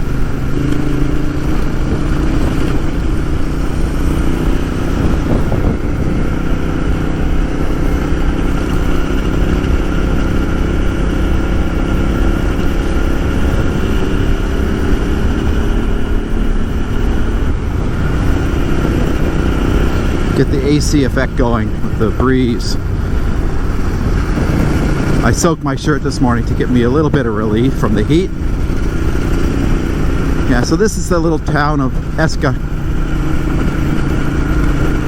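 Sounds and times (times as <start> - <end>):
motorcycle engine running: 0.0 - 35.0
wind noise: 0.0 - 35.0.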